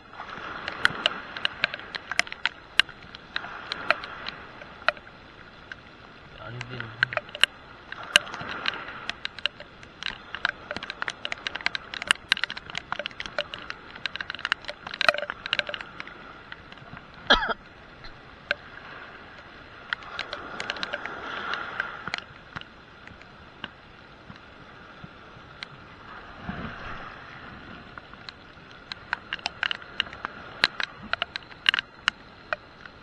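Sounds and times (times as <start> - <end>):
raindrops tapping on camera: 0.0 - 25.9, 27.7 - 33.0
steady hiss of rain: 0.0 - 33.0.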